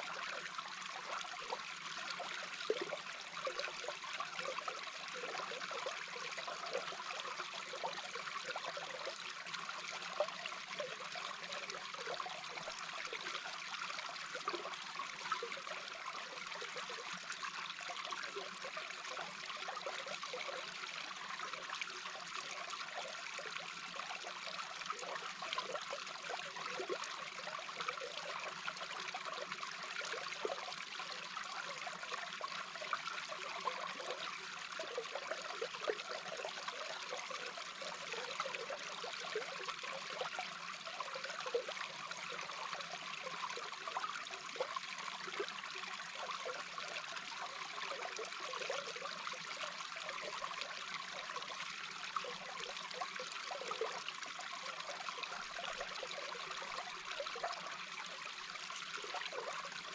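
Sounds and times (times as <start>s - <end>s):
water flowing underwater: 0.0s - 59.9s.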